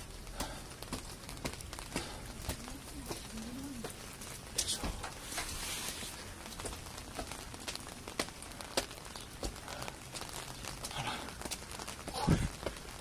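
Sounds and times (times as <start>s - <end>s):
footsteps on wet stone steps: 0.0s - 13.0s
rain hiss: 0.0s - 13.0s.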